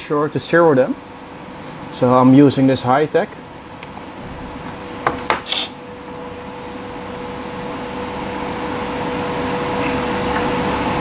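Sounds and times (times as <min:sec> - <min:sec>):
machine hum with fan noise: 0:00.0 - 0:11.0.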